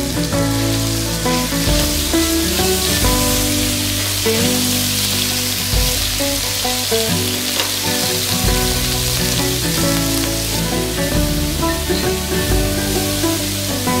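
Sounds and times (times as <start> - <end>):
background music: 0.0 - 14.0
meat sizzling in a frying pan: 0.0 - 14.0.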